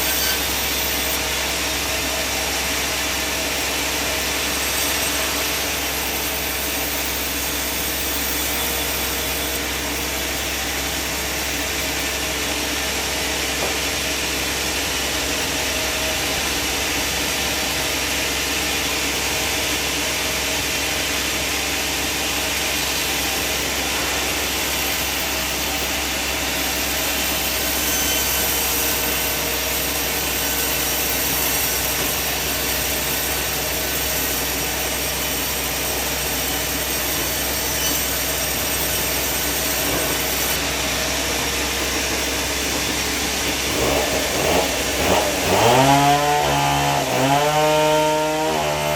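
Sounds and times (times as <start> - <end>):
sawmill machine running: 0.0 - 48.9.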